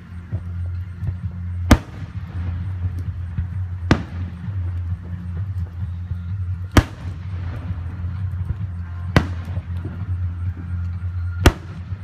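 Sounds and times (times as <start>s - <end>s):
fireworks bursting: 0.0s - 12.0s
low steady hum: 0.0s - 12.0s.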